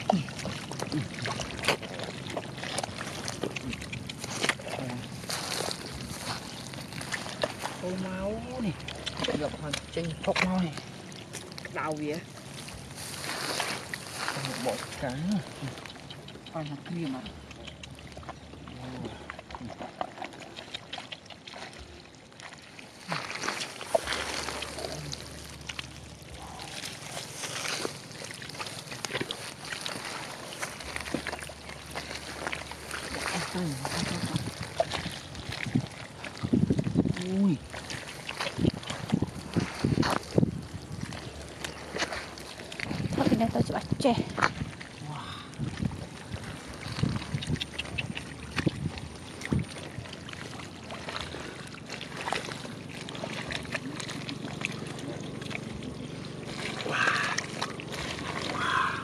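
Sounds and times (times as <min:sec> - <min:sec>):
sloshing in muddy water: 0:00.0 - 0:59.0.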